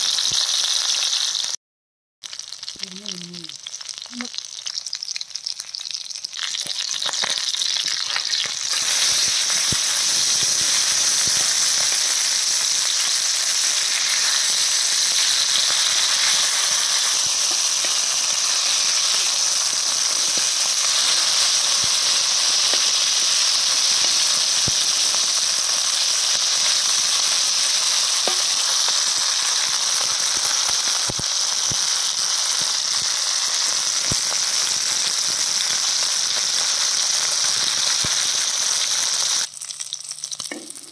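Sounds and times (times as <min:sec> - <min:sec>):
oil sizzling with frying fish: 0:00.0 - 0:01.6, 0:02.2 - 0:40.9
oil popping and crackling: 0:02.2 - 0:40.9.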